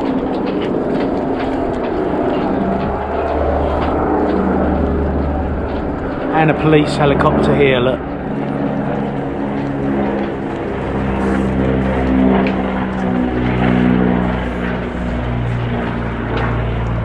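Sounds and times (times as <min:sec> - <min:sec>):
propeller aircraft droning overhead: 0:00.0 - 0:17.0.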